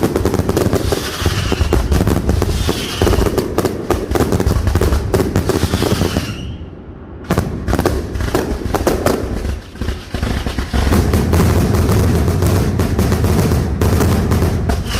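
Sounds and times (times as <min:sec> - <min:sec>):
fireworks bursts and crackle: 0:00.0 - 0:14.9.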